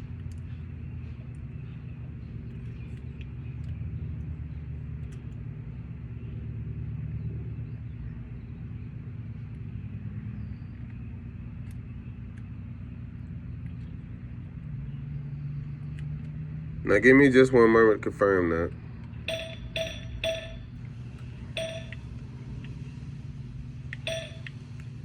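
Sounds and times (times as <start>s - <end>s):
low rumble and hum: 0.0s - 25.0s.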